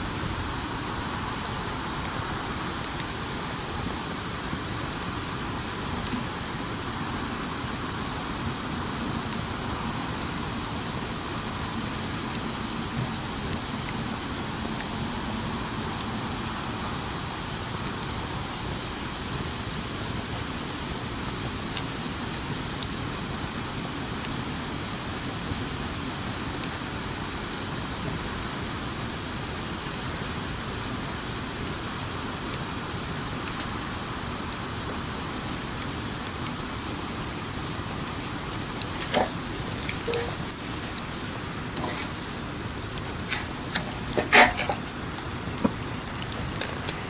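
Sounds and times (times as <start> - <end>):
campfire hissing and crackling: 0.0 - 47.0.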